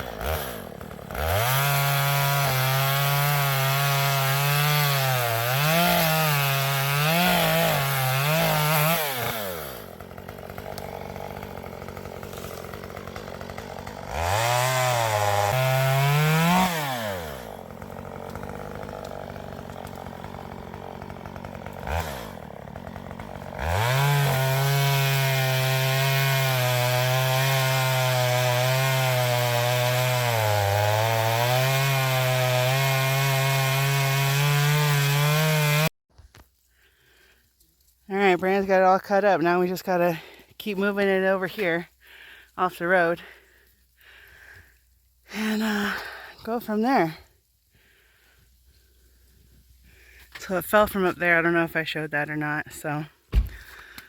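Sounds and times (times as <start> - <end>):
chainsaw cutting tree: 0.0 - 37.5, 38.3 - 54.0.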